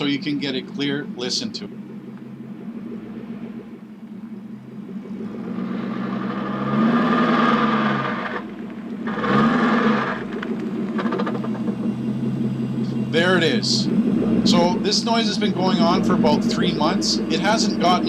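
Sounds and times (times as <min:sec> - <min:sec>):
car engine pulling in reverse: 0:00.0 - 0:18.0
strange transmission noise: 0:00.0 - 0:18.0.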